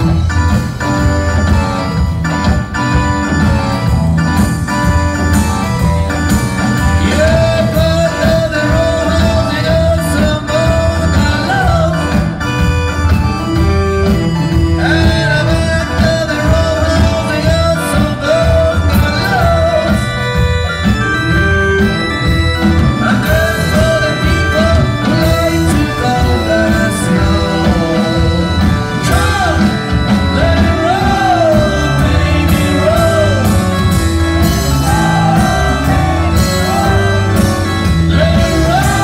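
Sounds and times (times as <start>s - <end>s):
live blues-rock band: 0.0s - 39.0s
wavering lead melody: 0.0s - 39.0s.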